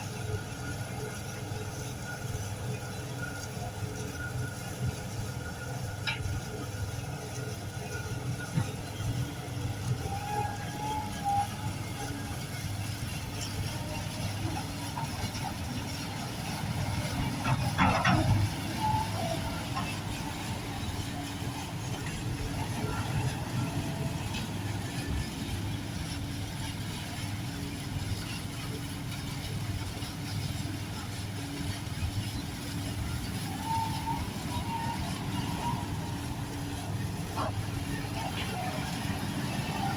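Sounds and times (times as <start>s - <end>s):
loader diesel engines running: 0.0s - 39.9s.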